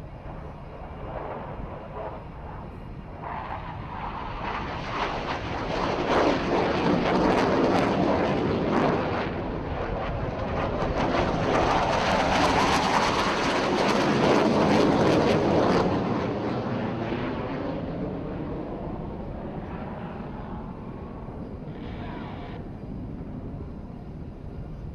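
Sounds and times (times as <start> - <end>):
jet aircraft flying past: 0.0 - 24.9.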